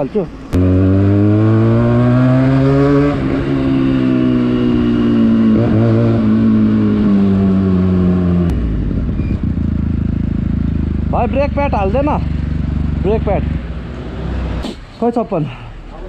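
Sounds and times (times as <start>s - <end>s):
motorcycle engine running: 0.6s - 14.0s.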